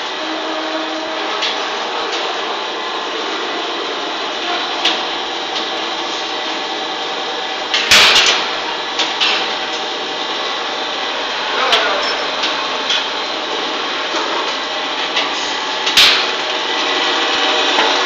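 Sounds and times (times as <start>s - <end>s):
machine running steadily: 0.0s - 18.0s.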